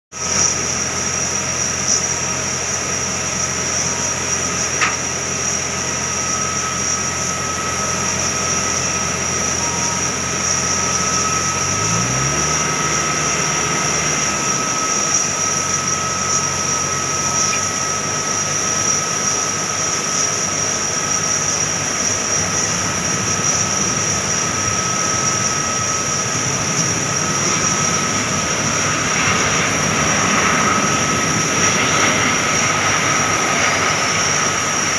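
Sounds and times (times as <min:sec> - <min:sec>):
jet aircraft whine: 0:00.1 - 0:34.9
low engine hum: 0:00.2 - 0:34.9.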